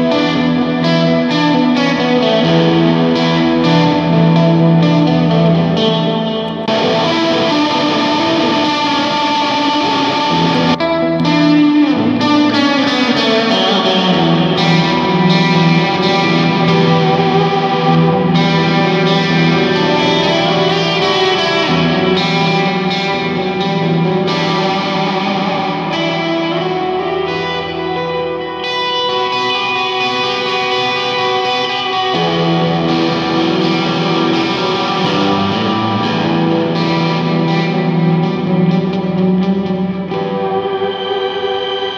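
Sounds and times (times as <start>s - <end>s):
electric guitar sustained chords: 0.0s - 41.9s.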